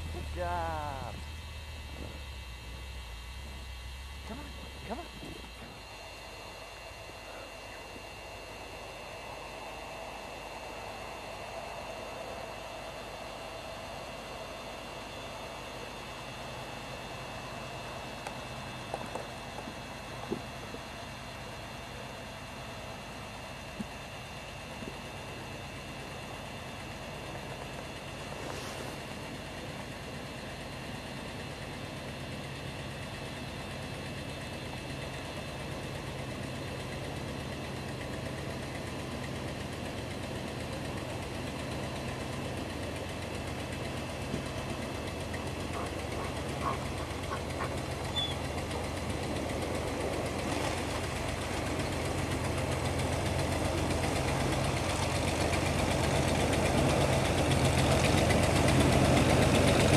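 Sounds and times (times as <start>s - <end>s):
off-road engine running: 0.0s - 59.9s.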